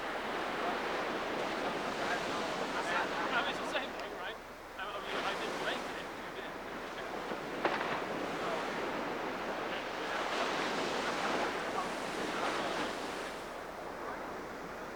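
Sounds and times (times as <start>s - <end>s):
waves washing on shoreline: 0.0s - 14.9s.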